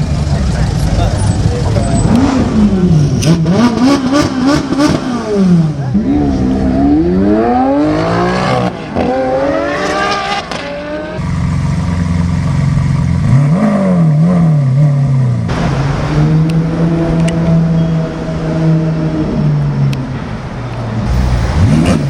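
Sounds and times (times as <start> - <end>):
car engine revving: 0.0 - 22.0
sports car engines accelerating: 0.0 - 22.0.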